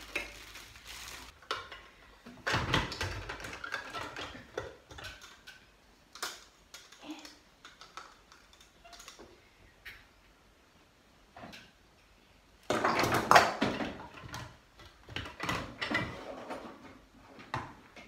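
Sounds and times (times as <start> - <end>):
plastic parts rattling and clattering: 0.0 - 9.3, 12.7 - 18.0.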